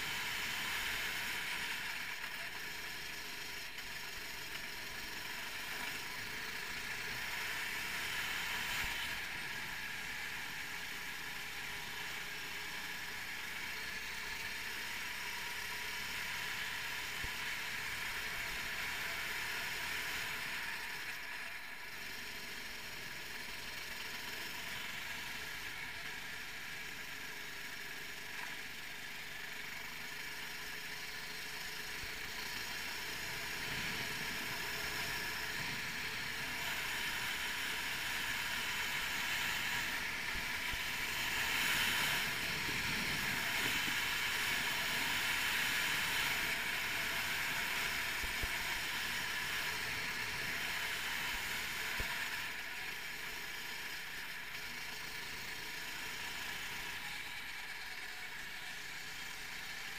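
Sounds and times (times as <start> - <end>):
kart engine running at speed: 0.0 - 59.9.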